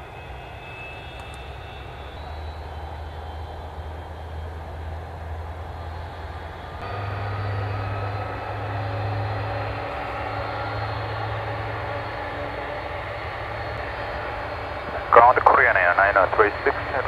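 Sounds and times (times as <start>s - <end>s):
jet engines humming and whining: 0.0s - 17.0s.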